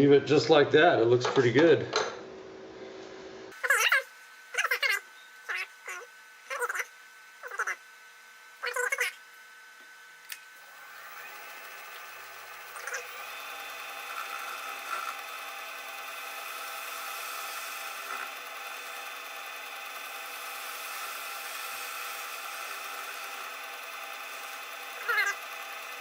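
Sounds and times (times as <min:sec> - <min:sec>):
machine tool motor running: 0:04.6 - 0:08.0, 0:08.6 - 0:26.0.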